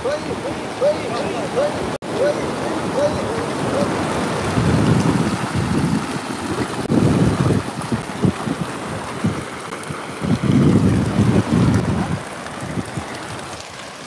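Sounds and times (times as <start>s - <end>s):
surf washing: 0.0s - 14.0s
wind gusting against microphone: 0.0s - 14.0s.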